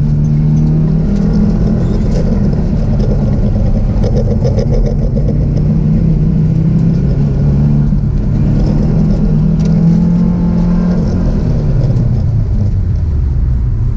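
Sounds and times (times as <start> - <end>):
car engine pulling hard: 0.0 - 13.9.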